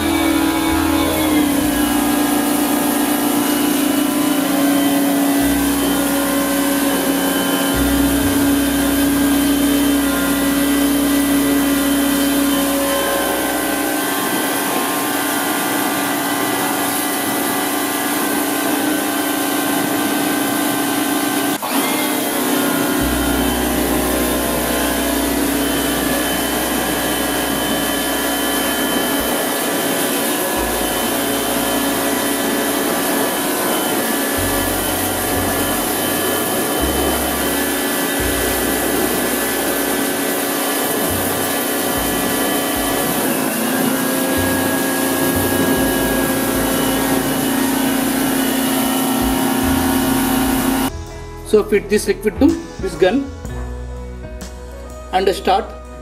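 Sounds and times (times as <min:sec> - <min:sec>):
water jet hissing on steel gate: 0:00.0 - 0:50.9
pressure washer motor hum: 0:00.0 - 0:51.0.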